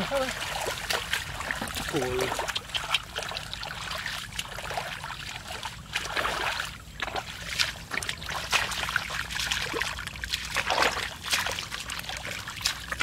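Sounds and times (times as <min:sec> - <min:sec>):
hands sloshing in muddy water: 0:00.0 - 0:13.0.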